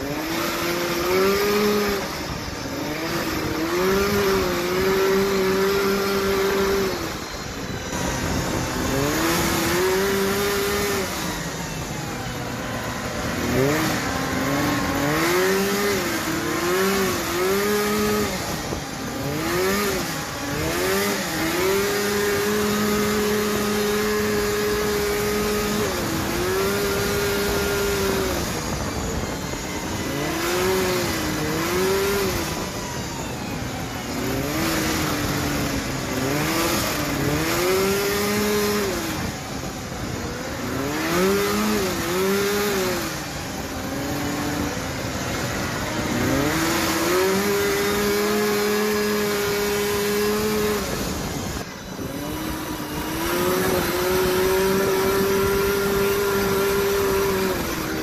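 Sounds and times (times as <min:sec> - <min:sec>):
off-road buggy engine: 0:00.0 - 0:58.0.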